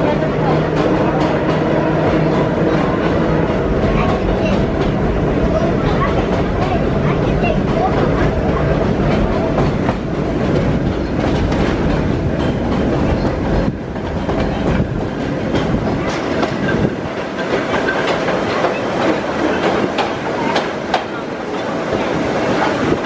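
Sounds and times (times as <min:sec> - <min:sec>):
rumble of train wheels on rail: 0:00.0 - 0:23.0.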